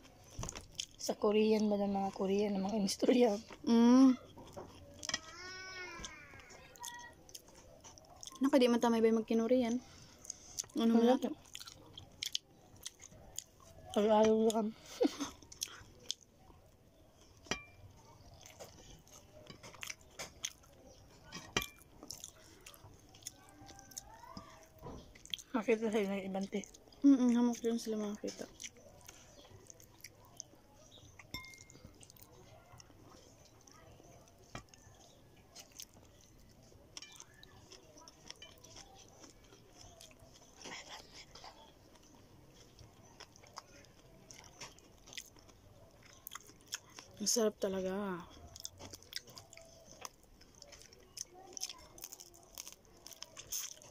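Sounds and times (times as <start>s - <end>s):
person chewing food: 0.0s - 8.5s, 9.8s - 47.3s, 48.0s - 53.9s.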